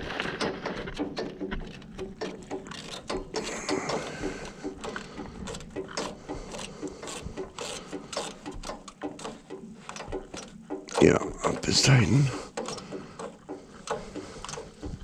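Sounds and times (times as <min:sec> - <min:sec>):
blade tensioner clicking and ratcheting: 0:00.4 - 0:15.0.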